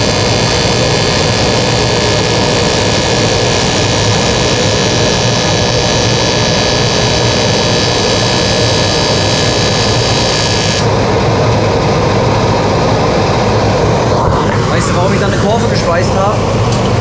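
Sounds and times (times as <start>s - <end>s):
steady machine noise: 0.0s - 17.0s
welding arc buzzing hiss: 0.0s - 17.0s.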